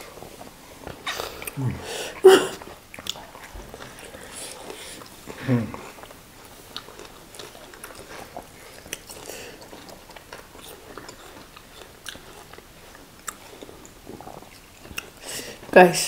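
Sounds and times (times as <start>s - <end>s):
people chewing food: 0.0s - 16.0s.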